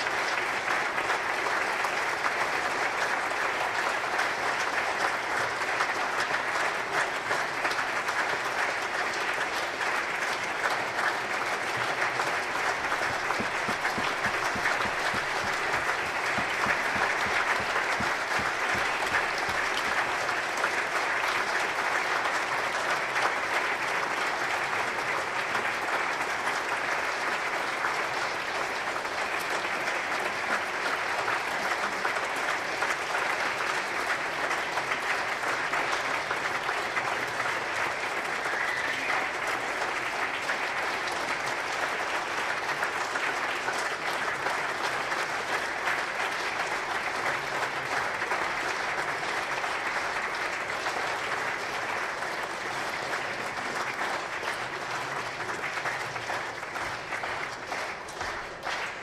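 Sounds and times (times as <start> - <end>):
audience applauding: 0.0 - 59.0.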